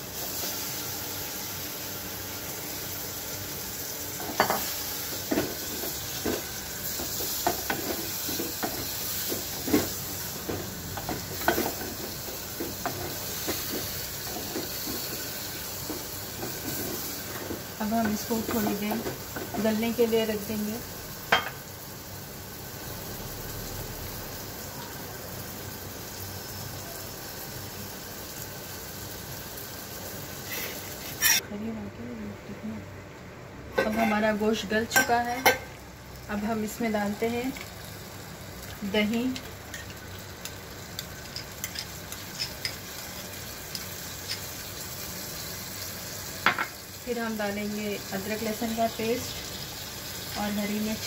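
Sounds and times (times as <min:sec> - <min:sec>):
meat simmering with steady hiss: 0:00.0 - 0:51.0.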